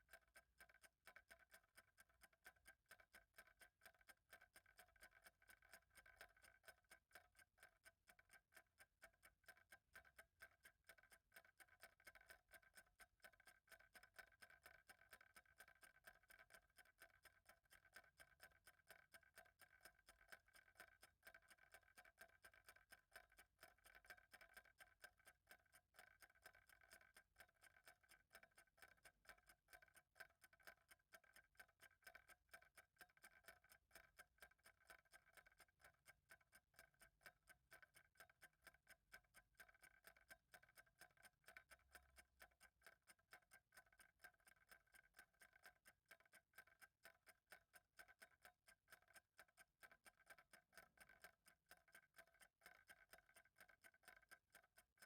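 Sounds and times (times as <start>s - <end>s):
faint clock ticking: 0.0s - 55.0s.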